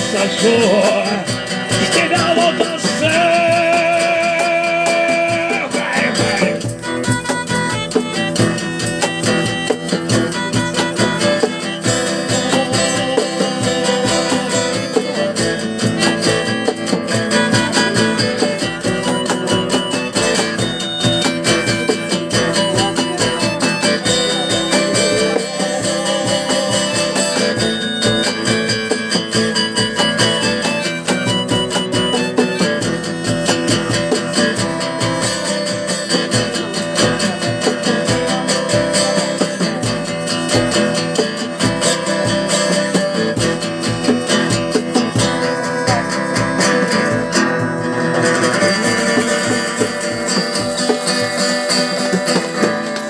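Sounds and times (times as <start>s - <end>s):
live rock band playing: 0.0s - 53.0s
strummed guitar: 0.0s - 53.0s.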